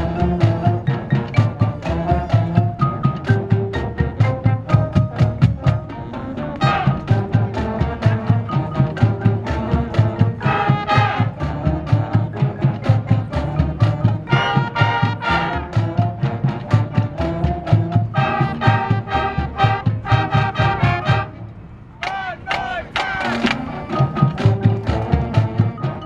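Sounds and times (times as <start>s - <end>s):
marching drum beat: 0.0s - 5.9s, 6.6s - 21.3s, 22.0s - 26.0s
brass section sustained chords: 0.0s - 26.0s.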